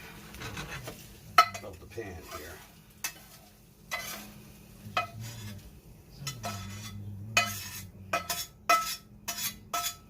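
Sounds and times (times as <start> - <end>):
metal utensil scraping skillet: 0.0 - 5.6, 6.2 - 10.0.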